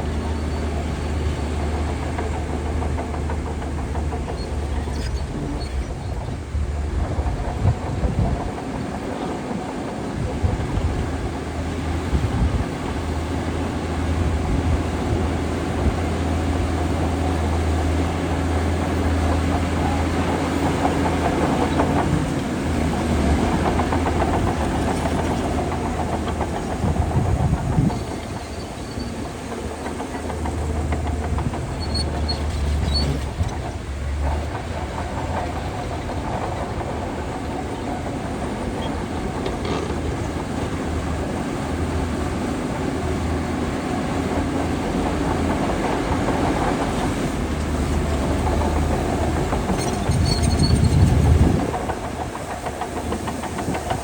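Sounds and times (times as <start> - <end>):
bulldozer diesel engine droning: 0.0 - 54.0
machine clattering: 0.0 - 54.0.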